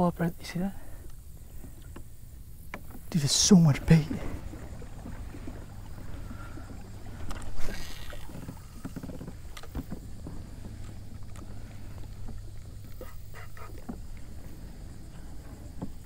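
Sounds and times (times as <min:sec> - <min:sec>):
water splashing: 0:00.8 - 0:16.0.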